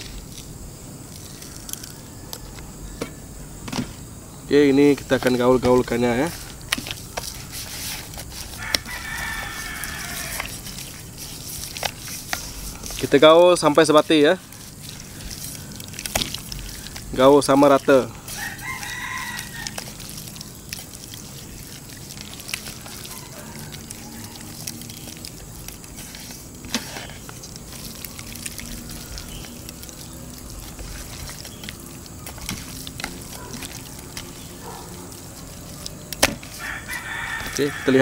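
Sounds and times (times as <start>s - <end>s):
wet squelches of kneaded meat: 4.7s - 38.0s.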